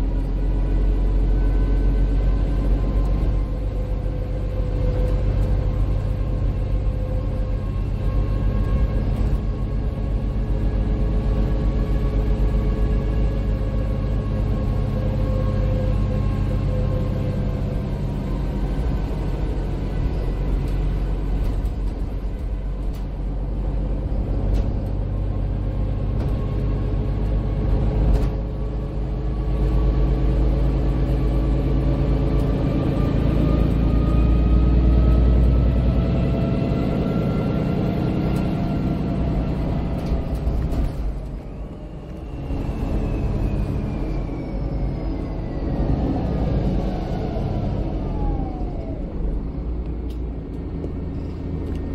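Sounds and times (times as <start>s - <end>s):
bus diesel engine drone: 0.0s - 51.9s
road rumble: 0.0s - 51.9s.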